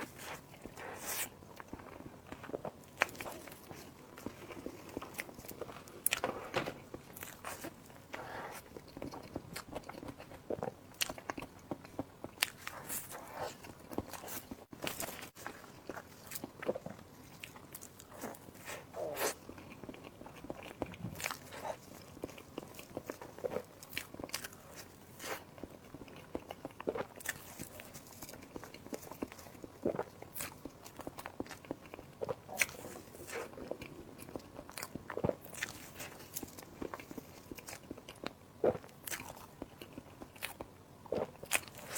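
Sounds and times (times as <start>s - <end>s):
crunchy bites and chewing: 0.0s - 41.9s.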